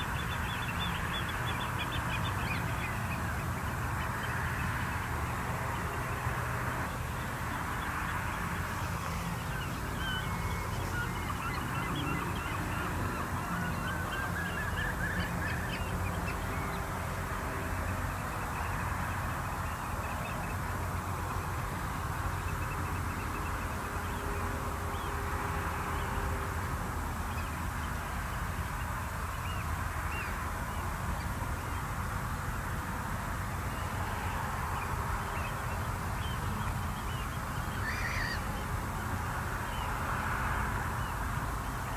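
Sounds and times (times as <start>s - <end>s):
waterbirds calling: 0.0s - 26.2s, 33.2s - 41.9s.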